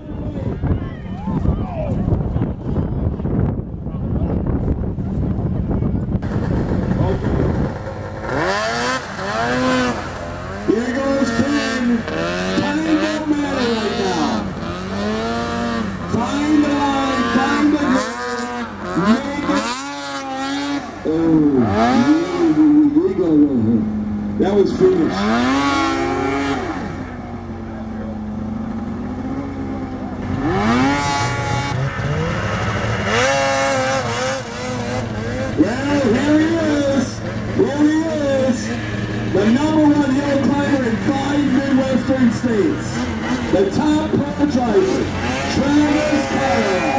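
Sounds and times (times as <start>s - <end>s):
snowmobile engine revving: 6.2s - 46.9s.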